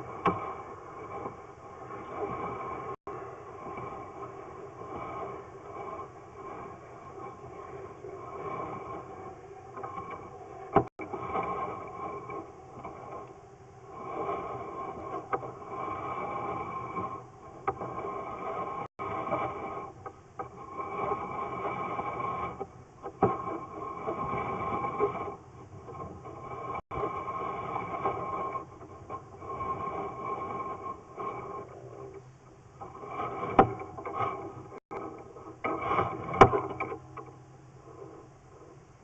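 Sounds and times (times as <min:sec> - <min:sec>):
rumbling and scraping in pipe: 0:00.0 - 0:39.0
steady mechanical whine: 0:00.0 - 0:39.0.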